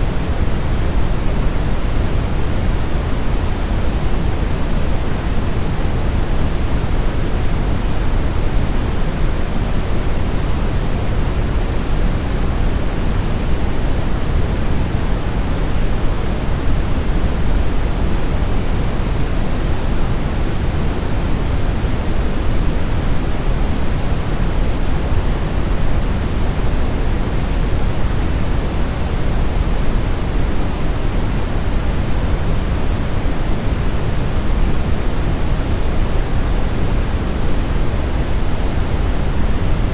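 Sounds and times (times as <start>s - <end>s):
deep brown noise hiss: 0.0s - 39.9s.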